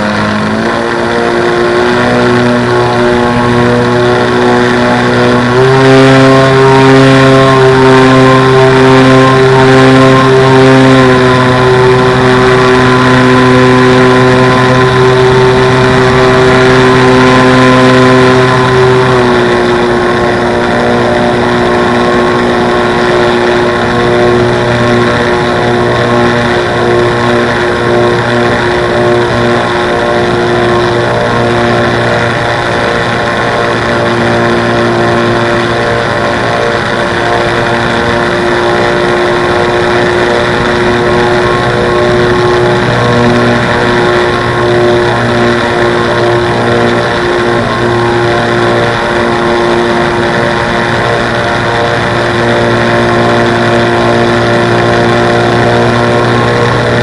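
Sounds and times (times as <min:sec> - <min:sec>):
model airplane motor droning: 0:00.0 - 0:57.0.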